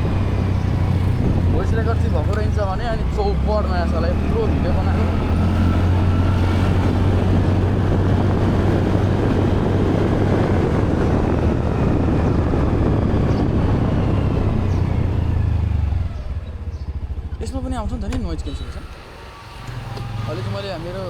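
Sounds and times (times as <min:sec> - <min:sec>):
wind rush on microphone: 0:00.0 - 0:18.9
motorcycle engine running: 0:00.0 - 0:21.0.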